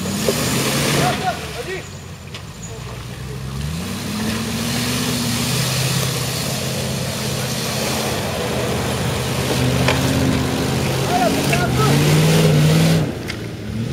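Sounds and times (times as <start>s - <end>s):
engine revving under load: 0.0s - 1.8s, 2.8s - 13.9s.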